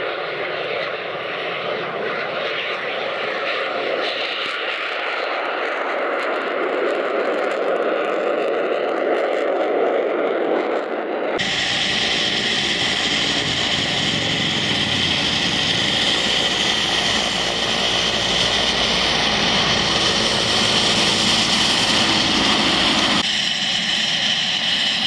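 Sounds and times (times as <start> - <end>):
helicopter flying overhead: 0.0 - 25.0.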